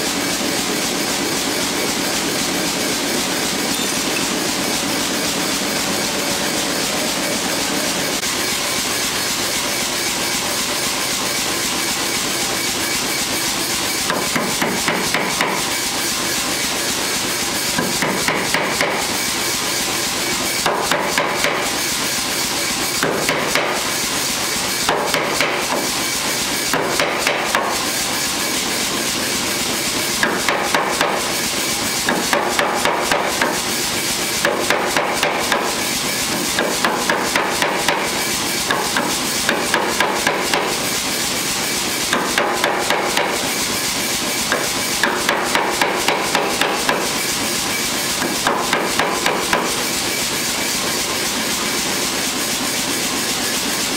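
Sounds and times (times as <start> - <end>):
power hammer running: 0.0 - 53.9
power hammer striking hot metal: 2.8 - 9.3, 13.8 - 16.1, 16.8 - 51.5.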